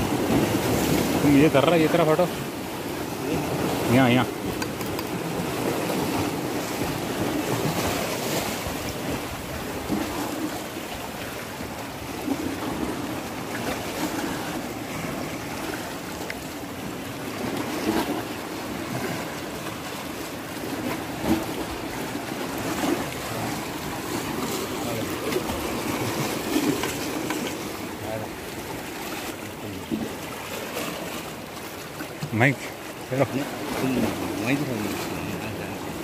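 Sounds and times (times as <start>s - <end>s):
sea waves splashing against rocks: 0.0s - 36.0s.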